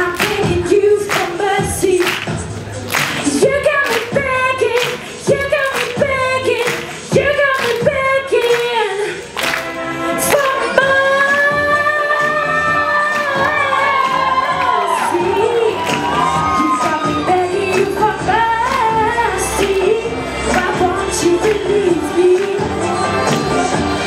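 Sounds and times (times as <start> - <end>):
woman singing into a microphone: 0.0 - 2.5, 3.2 - 9.3, 10.0 - 24.0.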